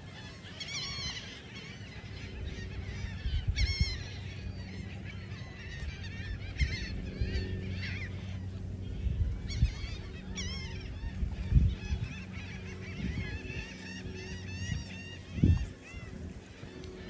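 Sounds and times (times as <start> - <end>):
gulls calling: 0.0 - 17.0
steady low hum: 0.0 - 17.0.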